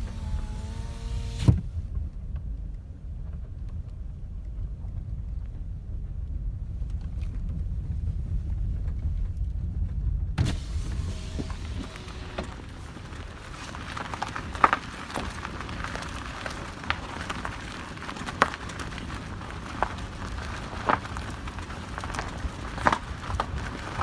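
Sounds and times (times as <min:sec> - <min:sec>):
car road rumble: 0:00.0 - 0:24.0.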